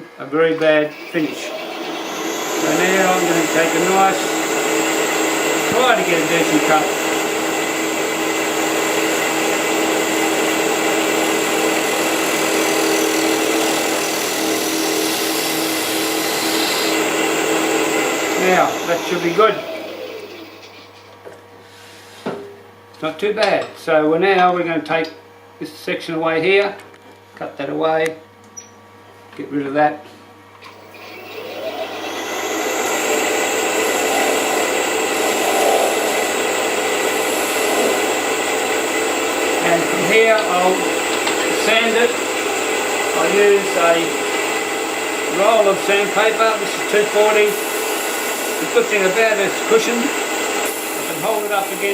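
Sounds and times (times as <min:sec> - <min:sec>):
turning tool cutting wood: 0:00.5 - 0:21.2, 0:30.6 - 0:51.9
wood lathe motor hum: 0:00.5 - 0:21.2, 0:30.6 - 0:51.9.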